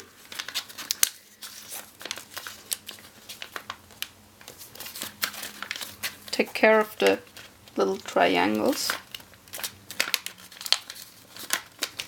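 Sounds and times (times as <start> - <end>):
paper being folded and crinkling: 0.0 - 12.0.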